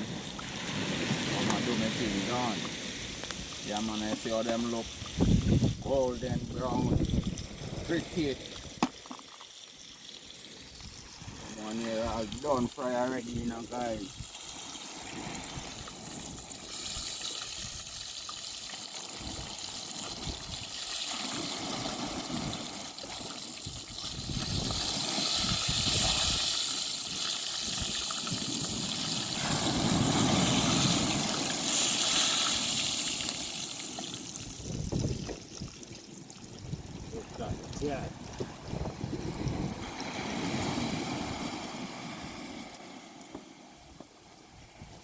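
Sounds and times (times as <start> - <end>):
sea waves washing onto beach: 0.0 - 45.0.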